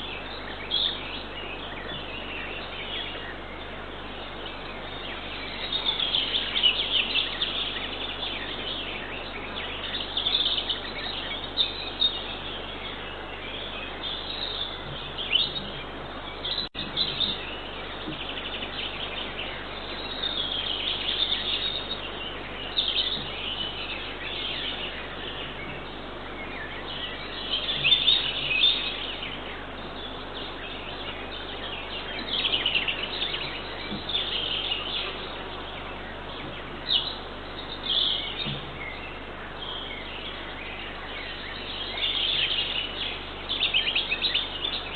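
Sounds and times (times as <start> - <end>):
microphone hiss and low hum: 0.0 - 44.9
songbirds singing and chirping: 0.0 - 44.9.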